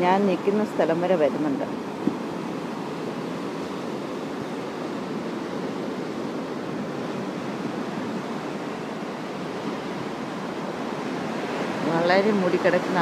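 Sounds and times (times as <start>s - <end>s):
sea surf on rocky shore: 0.0s - 13.0s.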